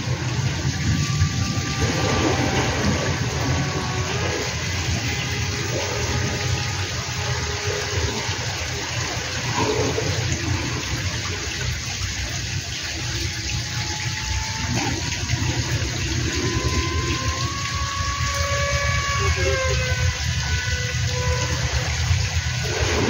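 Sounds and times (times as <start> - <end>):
wind on microphone: 0.0 - 13.3, 13.9 - 23.0
model plane motor whine: 0.0 - 23.0.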